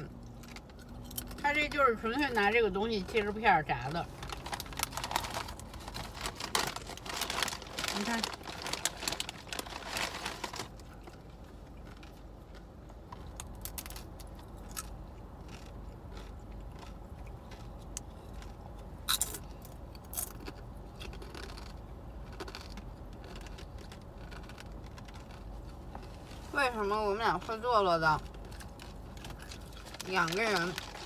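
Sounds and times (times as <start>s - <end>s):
car driving on road hum: 0.0s - 31.0s
crunching fried chips: 4.0s - 26.4s, 28.1s - 31.0s.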